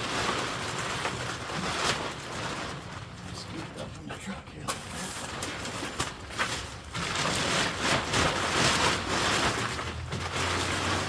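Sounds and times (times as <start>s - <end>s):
tent fabric rustling and crinkling: 0.0s - 11.0s.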